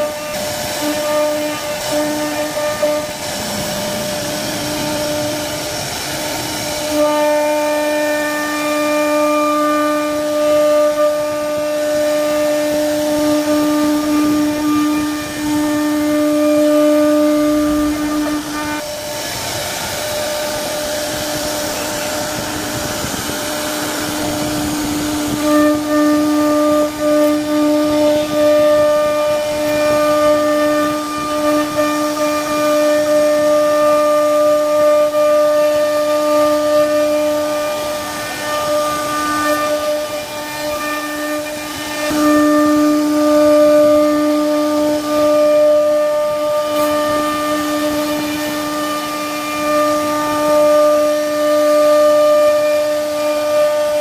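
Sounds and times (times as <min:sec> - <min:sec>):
cnc router spindle whine: 0:00.0 - 0:54.0.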